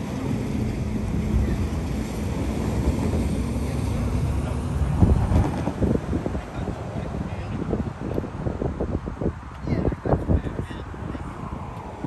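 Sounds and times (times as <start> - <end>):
vehicle engine rumbling: 0.0 - 12.0
wind buffeting microphone: 0.0 - 12.0.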